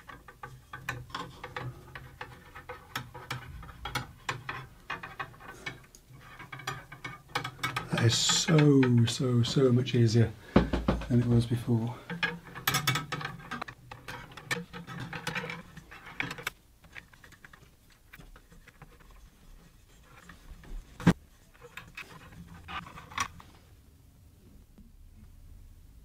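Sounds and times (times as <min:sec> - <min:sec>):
metal lead screw clicking and scraping: 0:00.0 - 0:23.4.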